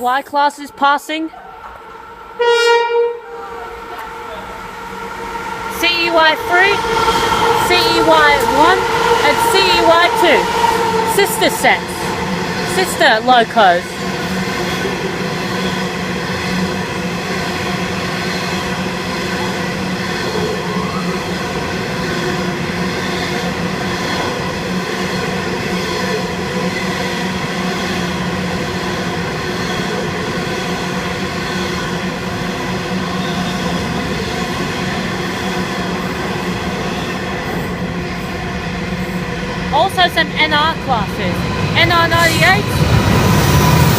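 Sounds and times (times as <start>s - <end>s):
train rolling noise: 0.0s - 43.9s.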